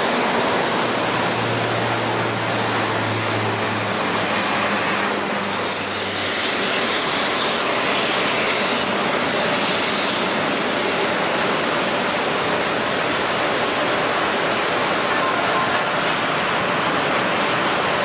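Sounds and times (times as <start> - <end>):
airliner engines running: 0.0 - 18.0
high engine whine: 0.0 - 18.0.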